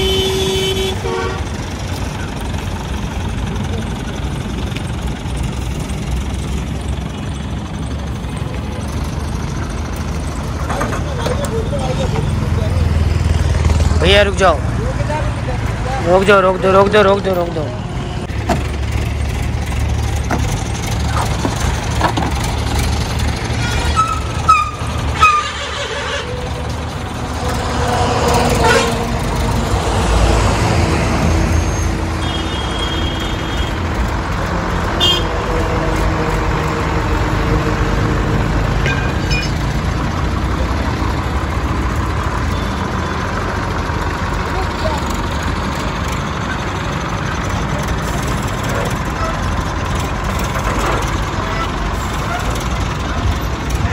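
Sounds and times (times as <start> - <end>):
vehicle engine and road rumble: 0.0 - 53.9.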